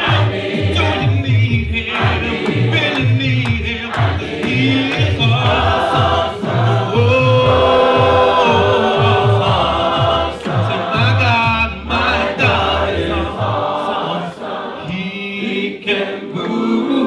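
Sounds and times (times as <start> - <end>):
low accompaniment: 0.0 - 15.2
choir singing gospel: 0.0 - 17.0.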